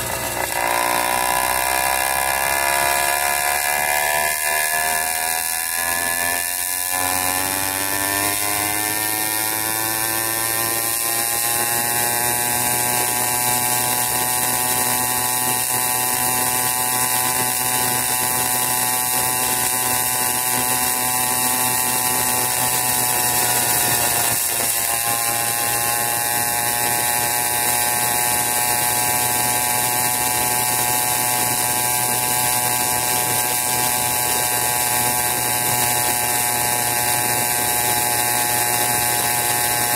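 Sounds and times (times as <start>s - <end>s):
small minibike engine revving: 0.0s - 39.9s.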